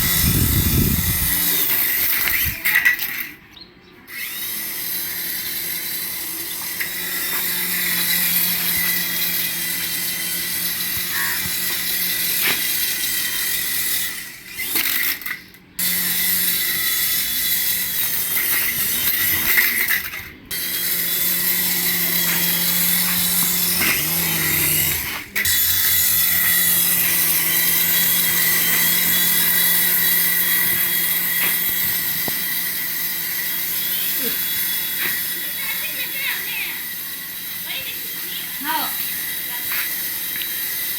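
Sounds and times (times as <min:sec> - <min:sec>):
toy electric motor whirring: 0:00.0 - 0:03.4, 0:04.0 - 0:40.9.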